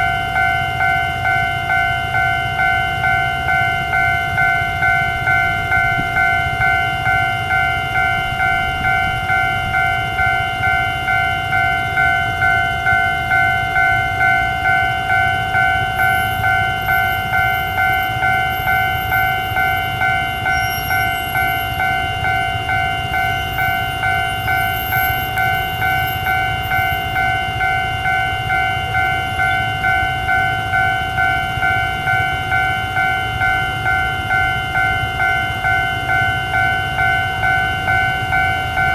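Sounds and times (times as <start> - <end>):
level-crossing warning bell ringing: 0.0 - 38.9.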